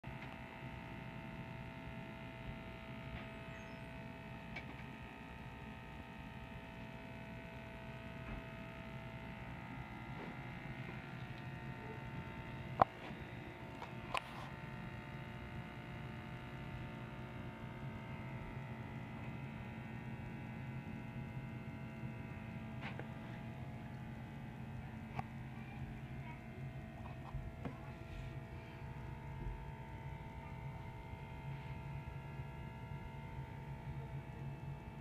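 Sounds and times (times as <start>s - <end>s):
aquarium pump humming: 0.0s - 35.0s.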